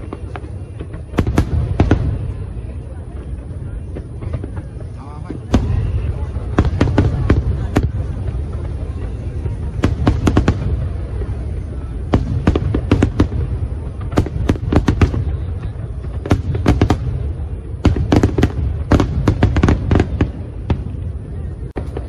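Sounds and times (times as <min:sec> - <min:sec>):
fireworks bangs and crackles: 0:00.0 - 0:22.0
low rumble of fireworks: 0:00.0 - 0:22.0.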